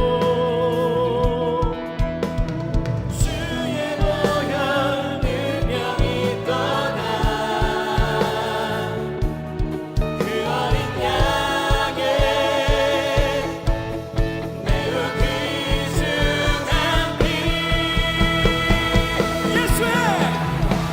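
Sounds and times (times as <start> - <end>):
worship band playing: 0.0 - 20.9
steady drum beat: 1.2 - 20.9
voices singing held notes: 3.2 - 20.9.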